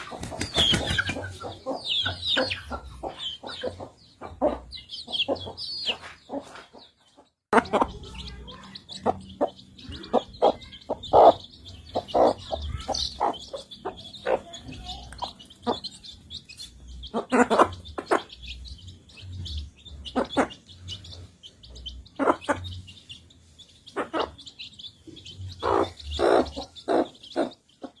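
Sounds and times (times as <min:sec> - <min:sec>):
chicks chirping: 0:00.0 - 0:28.0.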